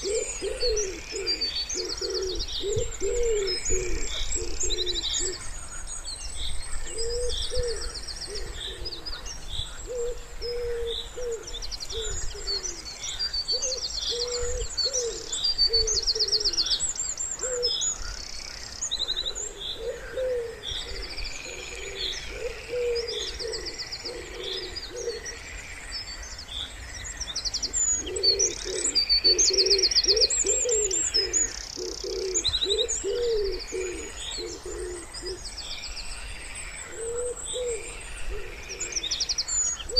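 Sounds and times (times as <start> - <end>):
wood pigeons cooing: 0.0 - 5.6, 6.8 - 12.9, 13.5 - 16.8, 17.4 - 18.2, 19.0 - 25.5, 27.6 - 35.5, 36.8 - 39.2
songbirds chirping and trilling: 0.0 - 39.9.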